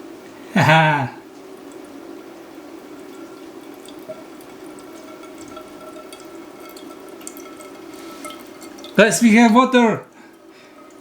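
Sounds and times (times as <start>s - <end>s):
water running from pipe: 0.9s - 11.0s
water drips and spatters: 1.4s - 11.0s.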